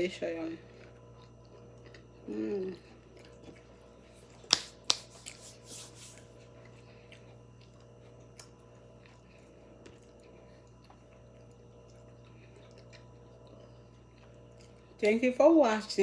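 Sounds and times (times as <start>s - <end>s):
faint low hum: 0.0s - 16.0s
chewing sounds: 0.7s - 15.1s.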